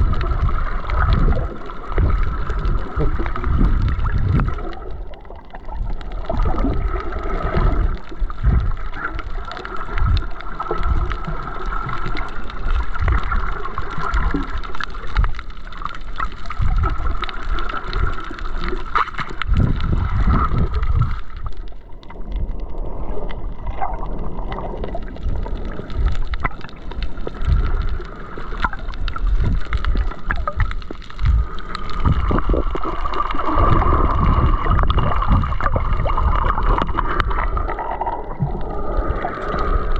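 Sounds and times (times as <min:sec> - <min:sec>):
underwater gurgling and sloshing: 0:00.0 - 0:39.9.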